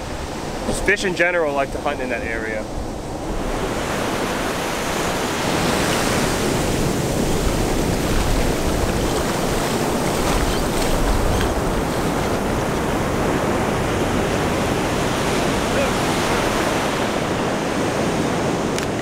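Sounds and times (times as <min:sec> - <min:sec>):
ocean surf breaking: 0:00.0 - 0:19.0
wind rumbling on microphone: 0:00.0 - 0:19.0.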